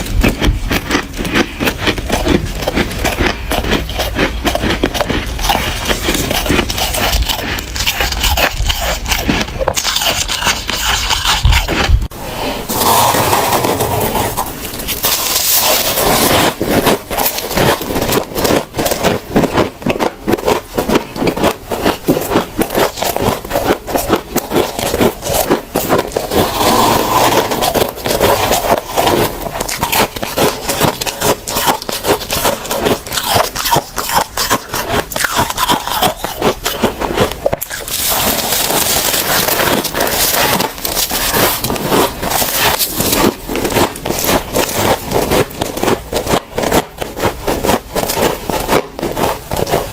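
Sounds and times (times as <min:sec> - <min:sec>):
frost crunching being chewed: 0:00.0 - 0:49.9.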